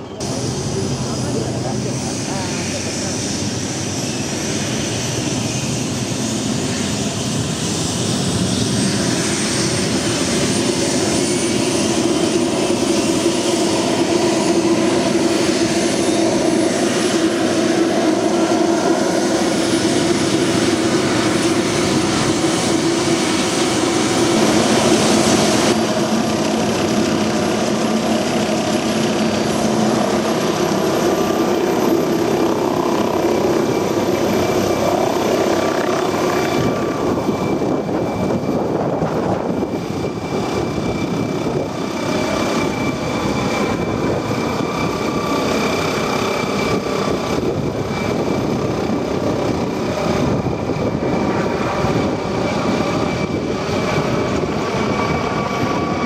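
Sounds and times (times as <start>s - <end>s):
helicopter rotor: 0.0s - 56.0s
high turbine whine: 0.0s - 56.0s.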